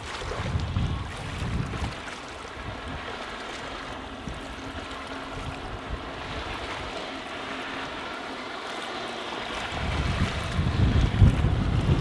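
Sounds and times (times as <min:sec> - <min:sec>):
wind on microphone: 0:00.0 - 0:08.1, 0:09.4 - 0:12.0
outboard motor humming: 0:00.0 - 0:12.0
water wash: 0:00.0 - 0:12.0.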